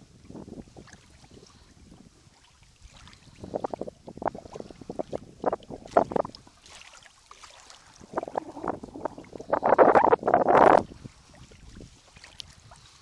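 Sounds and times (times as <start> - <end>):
small waves lapping against kayak hull: 0.0 - 13.0.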